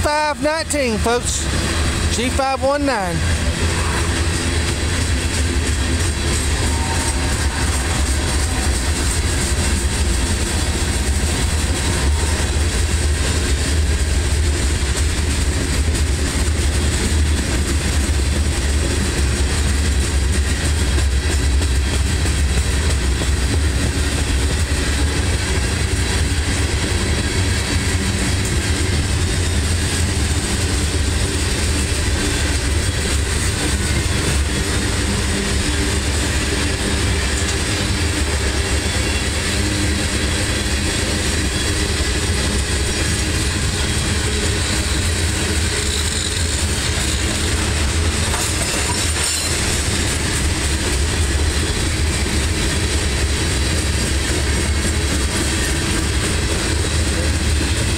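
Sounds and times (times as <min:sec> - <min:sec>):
freight train wheels rumbling: 0:00.0 - 0:57.9.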